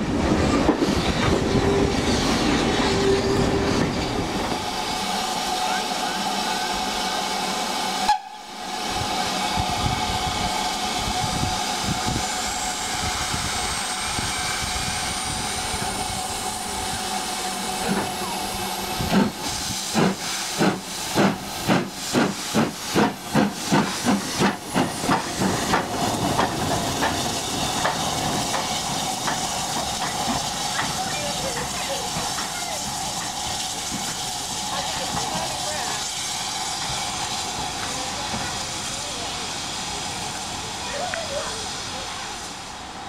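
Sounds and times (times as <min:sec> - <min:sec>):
steam hissing: 0:00.0 - 0:43.0
steam locomotive exhaust beats: 0:00.1 - 0:43.0.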